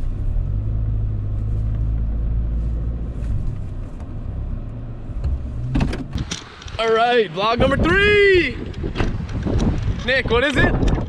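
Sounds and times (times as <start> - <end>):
truck engine and tyres droning: 0.0 - 11.0.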